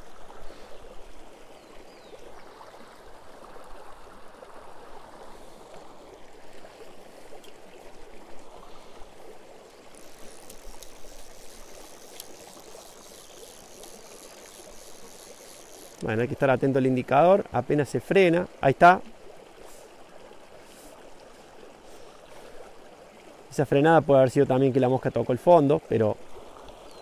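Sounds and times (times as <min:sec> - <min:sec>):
river flowing over stones: 0:00.0 - 0:27.0.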